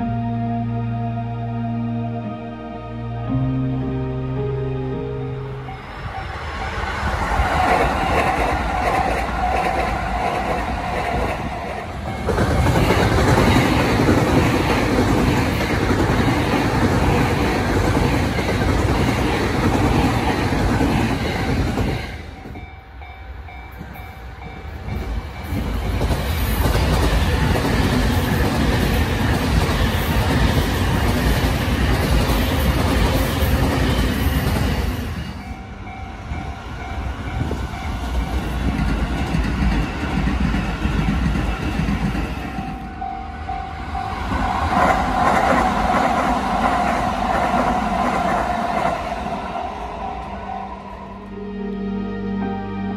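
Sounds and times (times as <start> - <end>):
electric trains passing: 0.0 - 52.9.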